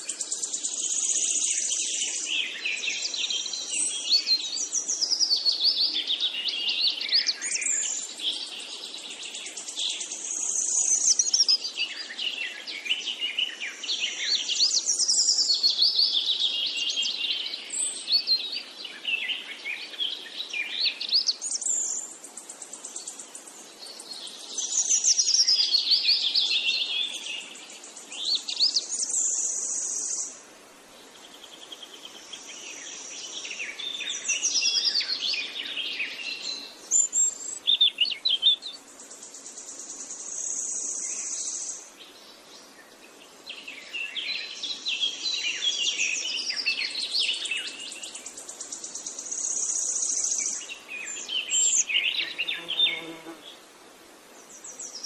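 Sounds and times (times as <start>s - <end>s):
songbird twittering with trills: 0.0s - 30.4s, 31.3s - 53.4s.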